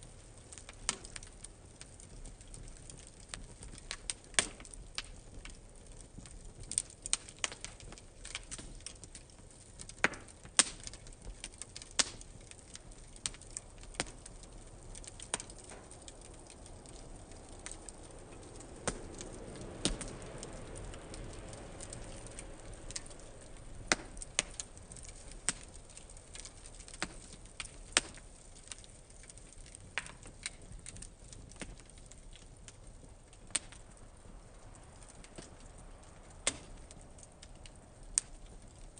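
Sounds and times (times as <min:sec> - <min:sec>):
fire crackling and popping: 0:00.0 - 0:38.9
rush of flame: 0:00.1 - 0:38.9.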